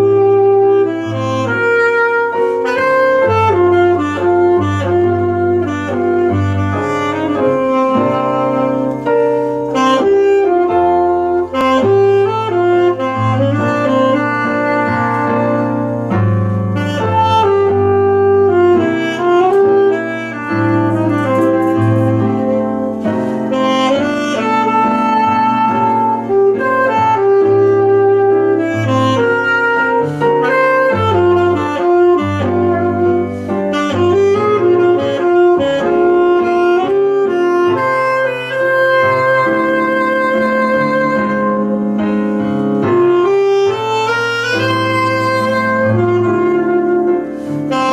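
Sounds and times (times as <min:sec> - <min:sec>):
keyboard accompaniment: 0:00.0 - 0:47.9
saxophone slow melody: 0:00.0 - 0:47.9.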